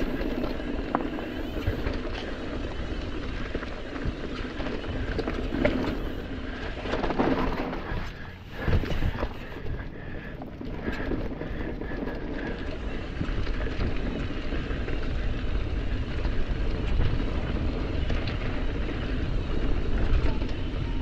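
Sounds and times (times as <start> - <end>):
bike rattling: 0.0 - 21.0.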